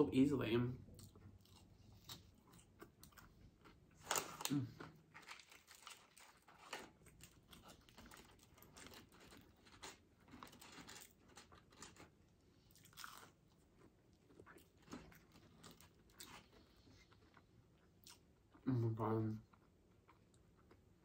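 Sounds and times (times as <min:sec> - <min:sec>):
faint chewing and crunching: 0:00.7 - 0:21.0.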